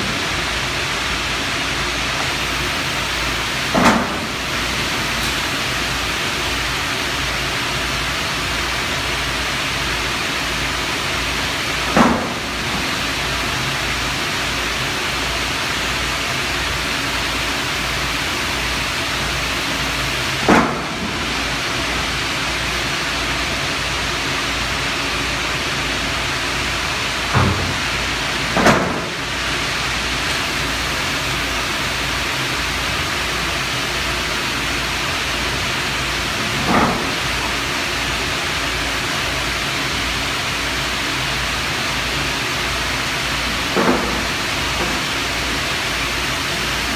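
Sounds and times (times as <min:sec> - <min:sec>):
industrial machinery noise: 0:00.0 - 0:46.9.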